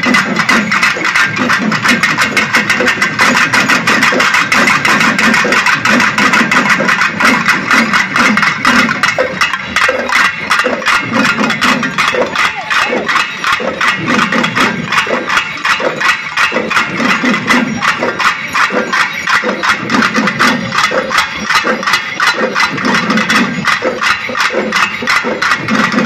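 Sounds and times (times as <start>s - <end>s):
drum ensemble beaten with sticks: 0.0s - 26.0s.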